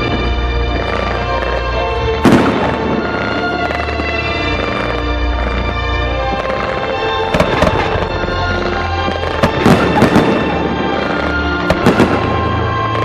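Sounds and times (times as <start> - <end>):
fireworks bangs: 0.0 - 13.0
music playing: 0.0 - 13.0.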